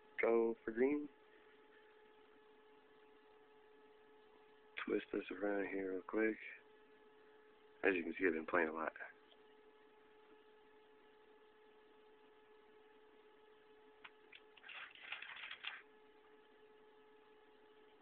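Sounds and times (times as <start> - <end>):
faint electrical motor whine: 0.0 - 18.0.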